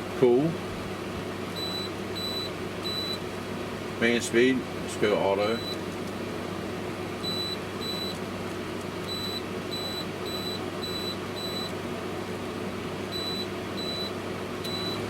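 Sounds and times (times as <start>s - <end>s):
air conditioner fan hum: 0.0s - 15.0s.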